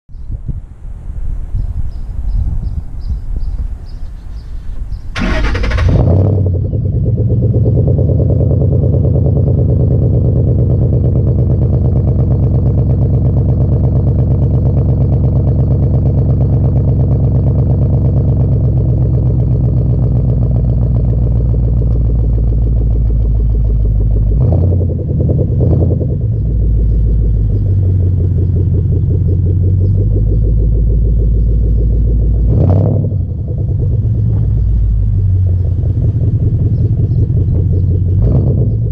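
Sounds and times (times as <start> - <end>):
car engine starting: 3.5 - 38.9
deep engine idle: 4.7 - 38.9
engine revving: 5.1 - 38.9.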